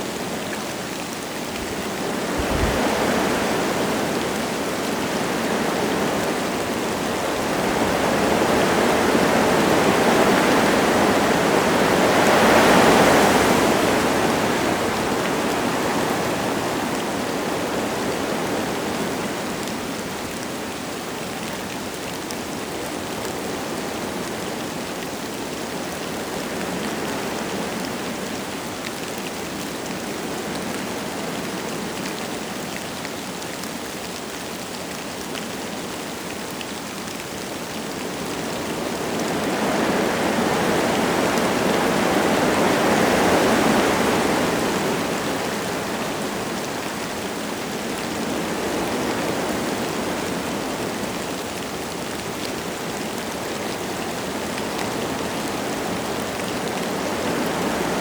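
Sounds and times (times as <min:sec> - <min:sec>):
light rain falling: 0:00.0 - 0:58.0
wind gusting through trees: 0:00.0 - 0:58.0.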